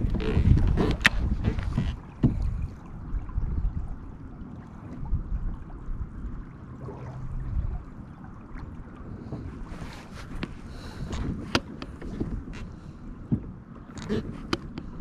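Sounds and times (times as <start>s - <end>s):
water lapping against a hull: 0.0s - 15.0s
wind rumbling on microphone: 0.0s - 15.0s.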